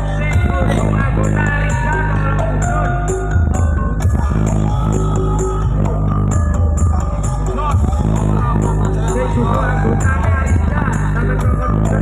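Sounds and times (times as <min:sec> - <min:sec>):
bass-heavy music from sound system: 0:00.0 - 0:12.0.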